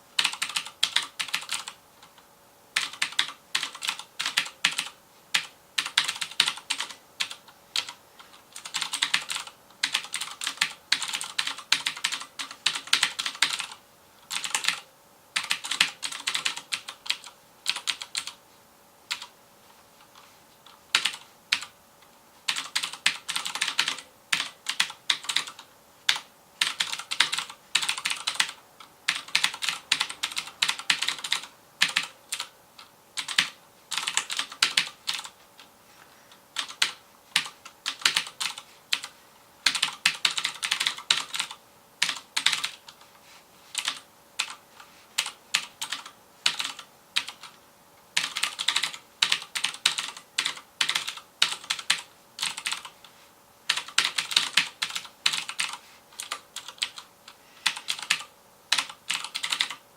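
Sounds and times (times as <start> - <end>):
mechanical keyboard typing: 0.2 - 2.1, 2.8 - 18.4, 19.1 - 19.3, 20.6 - 21.7, 22.5 - 35.4, 36.6 - 43.0, 43.7 - 44.6, 45.2 - 47.6, 48.2 - 53.0, 53.7 - 59.8.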